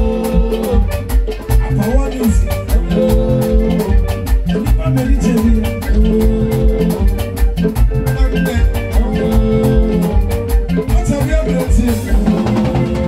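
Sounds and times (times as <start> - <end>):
bass: 0.0 - 13.0
drum kit: 0.0 - 13.0
electric guitar: 0.0 - 13.0
hand drums: 0.0 - 13.0.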